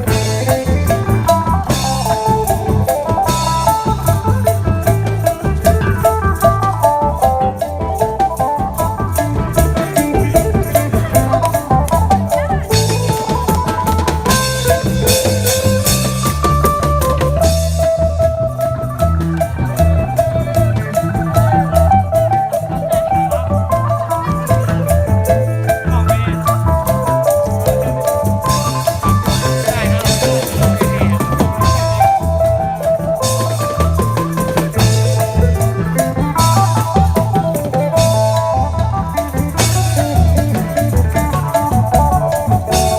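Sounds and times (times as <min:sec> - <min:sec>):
band playing: 0:00.0 - 0:42.9
drum kit steady beat: 0:00.0 - 0:42.9
stepping bass notes: 0:00.0 - 0:42.9.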